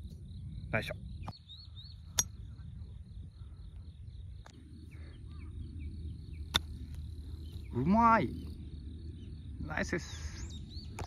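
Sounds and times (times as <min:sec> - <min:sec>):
insects chirring: 0:00.0 - 0:11.0
low wind rumble: 0:00.0 - 0:11.0.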